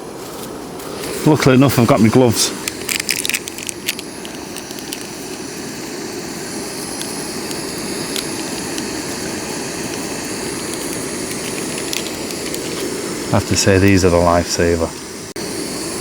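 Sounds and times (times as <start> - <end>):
gas stove burner running: 0.7 - 16.0
water coming to the boil: 0.9 - 16.0.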